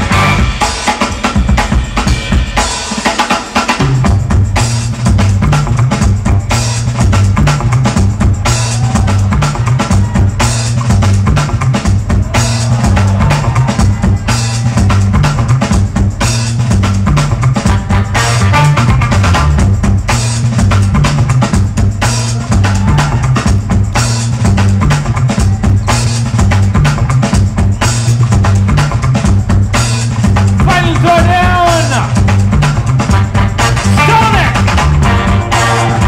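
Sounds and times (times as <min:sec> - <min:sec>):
heavy drum beat: 0:00.0 - 0:36.0
low bass line: 0:04.0 - 0:36.0.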